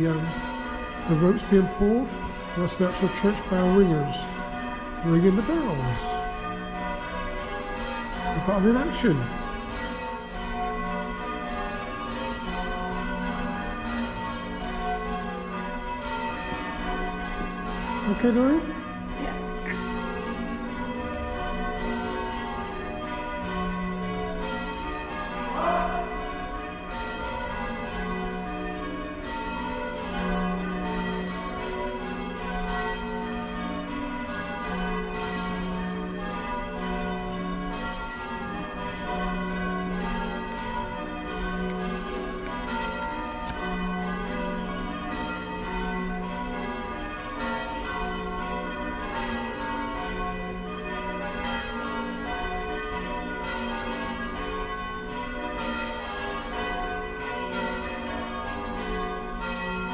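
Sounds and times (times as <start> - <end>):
church bells ringing changes: 0.0 - 59.9.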